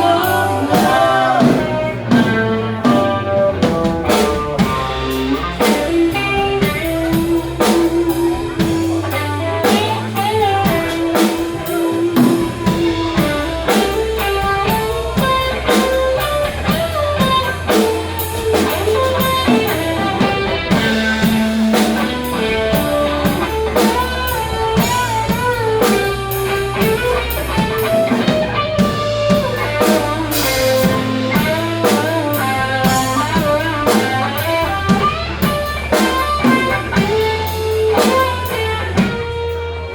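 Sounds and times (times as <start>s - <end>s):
drum kit beat: 0.0s - 39.9s
electric guitar lines: 0.0s - 39.9s.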